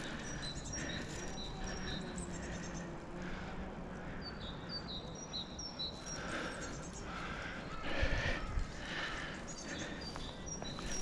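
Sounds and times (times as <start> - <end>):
rustling among bare branches: 0.0 - 11.0
songbird chirping: 0.0 - 11.0.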